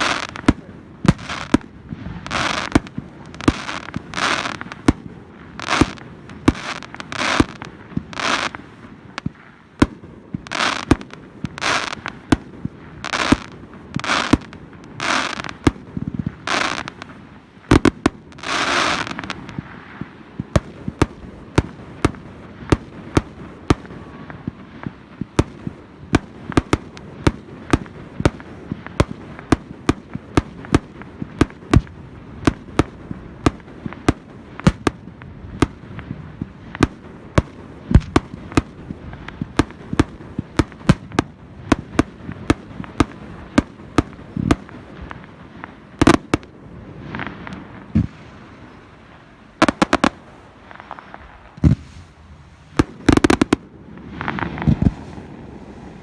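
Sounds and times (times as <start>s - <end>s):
fireworks bangs: 0.0s - 55.3s.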